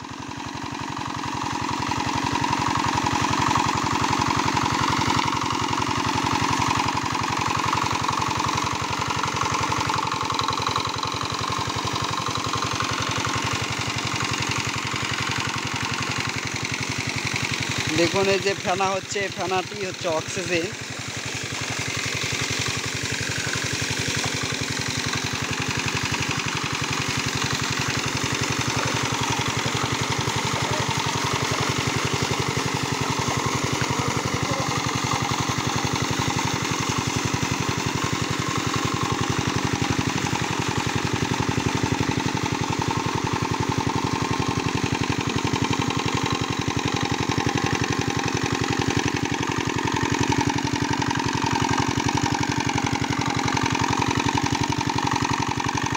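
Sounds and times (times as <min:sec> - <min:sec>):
diesel engine running: 0:00.0 - 0:55.9
water jet splashing onto pond: 0:00.8 - 0:55.9.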